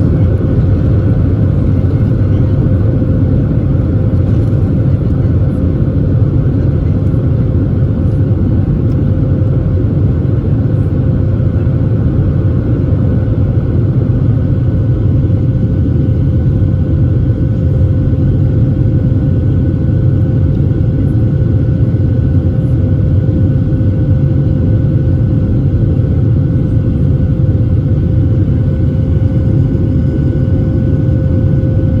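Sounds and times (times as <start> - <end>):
constant hum: 0.0 - 32.0
jet cabin rumble: 0.0 - 32.0.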